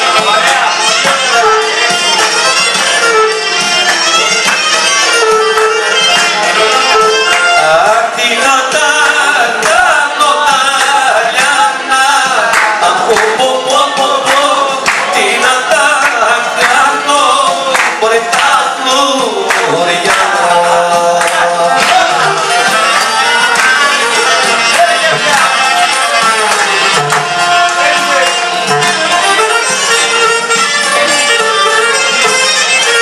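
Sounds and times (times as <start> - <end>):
folk song singing: 0.0 - 33.0
instrumental accompaniment: 0.0 - 33.0.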